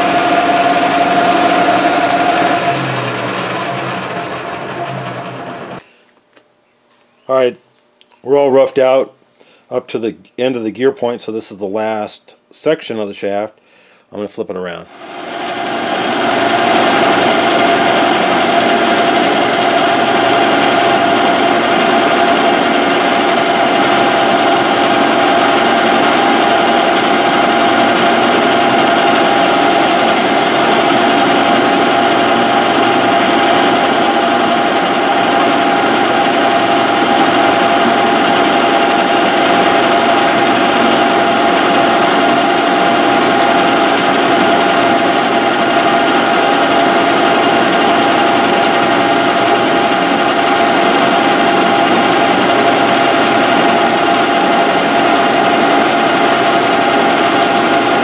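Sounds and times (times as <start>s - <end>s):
metal lathe humming: 0.0s - 5.8s, 15.0s - 58.0s.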